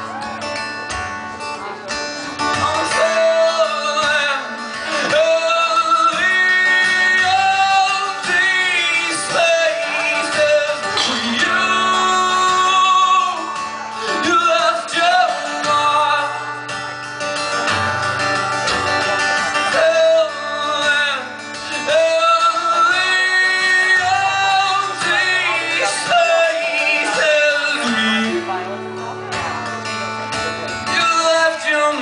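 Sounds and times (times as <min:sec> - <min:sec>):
acoustic guitar chords: 0:00.0 - 0:32.0
man singing: 0:01.6 - 0:32.0.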